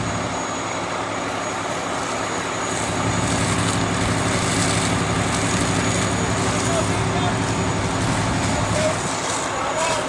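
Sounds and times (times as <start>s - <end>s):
diesel engine droning: 0.0s - 10.0s
faint high whine: 0.0s - 10.0s.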